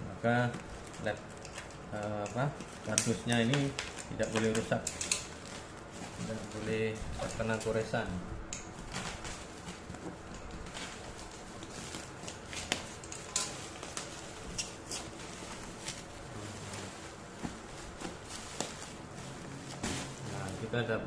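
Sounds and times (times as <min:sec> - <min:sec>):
cardboard and wrapping rustling: 0:00.1 - 0:21.0.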